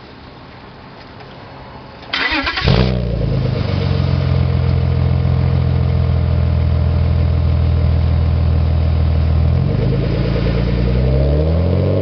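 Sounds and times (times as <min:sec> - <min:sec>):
car engine starting and idling: 0:02.0 - 0:12.0.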